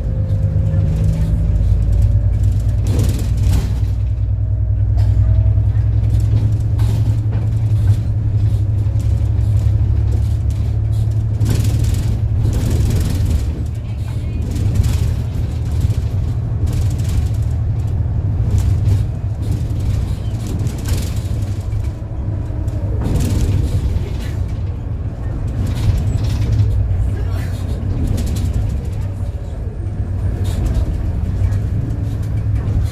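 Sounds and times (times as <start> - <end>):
bus body rattling and knocking: 0.0 - 32.9
bus engine droning: 0.0 - 32.9.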